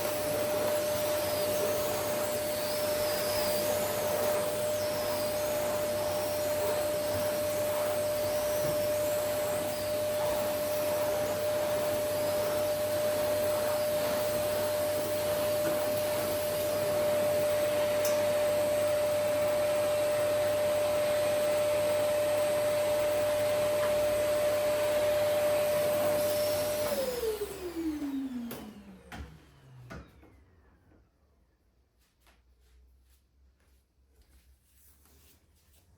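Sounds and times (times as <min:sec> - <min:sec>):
vacuum cleaner motor whining: 0:00.0 - 0:30.8.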